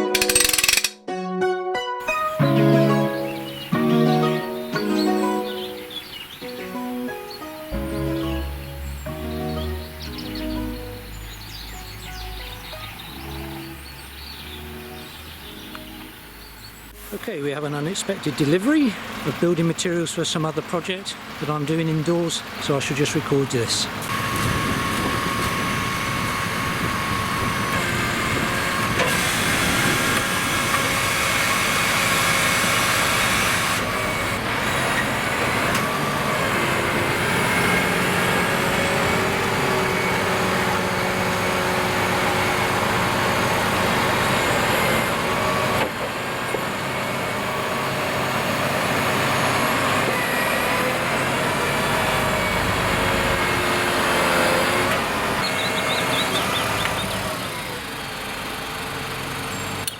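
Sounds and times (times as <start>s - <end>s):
truck engine running: 2.7s - 59.9s.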